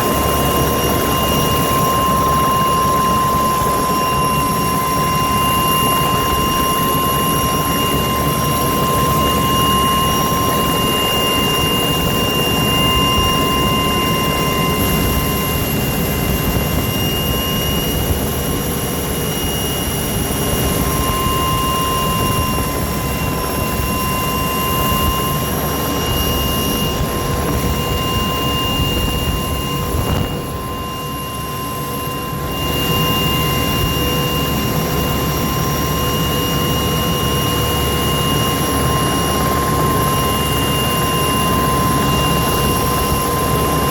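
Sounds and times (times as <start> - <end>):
aircraft engine drone: 0.0 - 43.9
high engine whine: 0.0 - 43.9.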